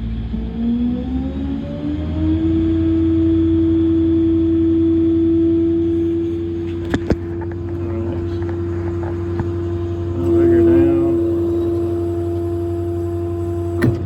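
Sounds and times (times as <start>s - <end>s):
truck engine whining: 0.0s - 14.0s.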